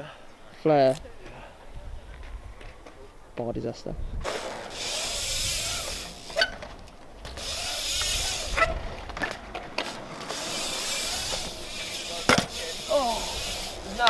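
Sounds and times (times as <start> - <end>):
bike tyres rolling on concrete: 0.0 - 14.0
bike clicks and knocks: 0.2 - 3.6, 4.2 - 14.0.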